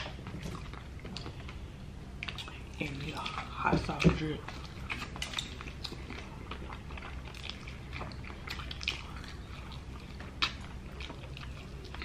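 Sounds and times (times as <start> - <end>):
chewing and biting fried chicken: 0.0 - 12.0
steady low hum: 0.0 - 12.0.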